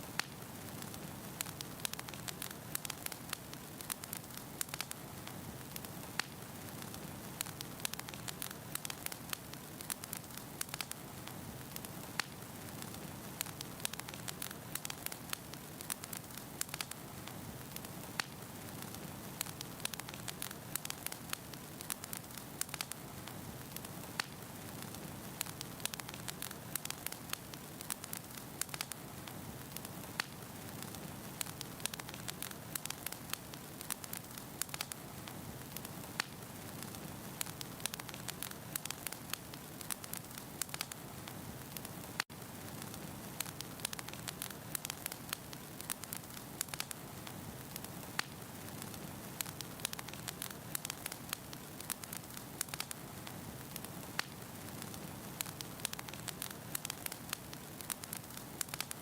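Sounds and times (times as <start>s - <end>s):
wood fire burning: 0.0s - 59.0s.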